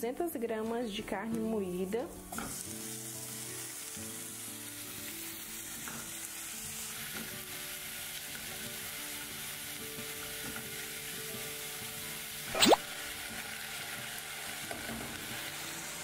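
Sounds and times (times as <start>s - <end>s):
meat sizzling in a pan: 1.6s - 16.0s.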